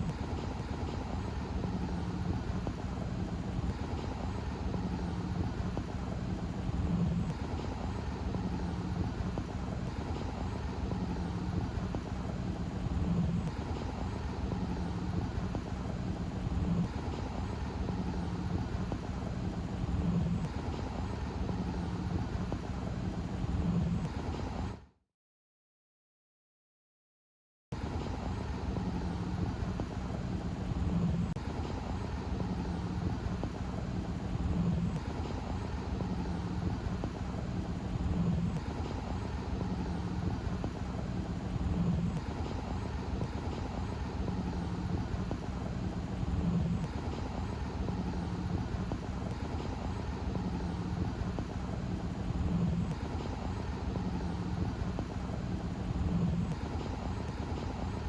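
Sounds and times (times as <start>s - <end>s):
engine running steadily: 0.0s - 24.9s, 27.8s - 58.0s.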